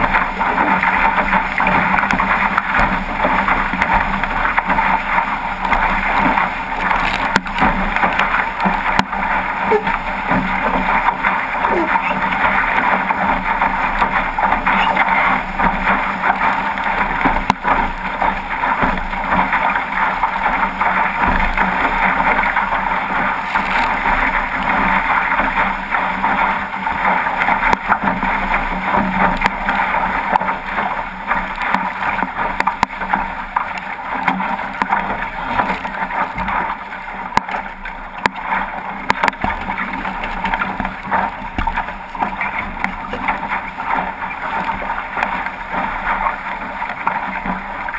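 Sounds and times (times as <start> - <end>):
water rushing along hull: 0.0 - 47.9.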